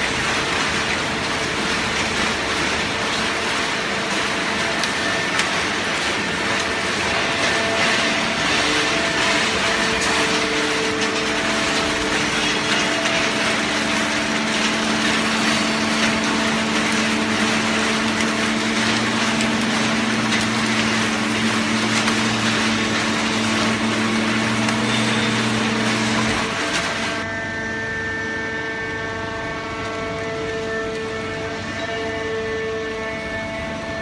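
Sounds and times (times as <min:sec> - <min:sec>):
baling press mechanical noise: 0:00.0 - 0:27.3.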